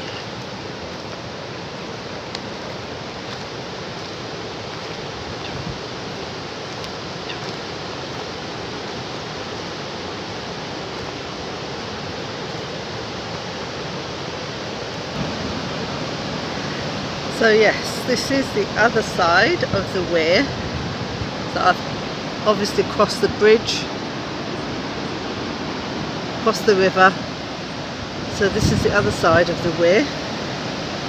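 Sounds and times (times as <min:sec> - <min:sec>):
water rushing over weir: 0:00.0 - 0:31.0.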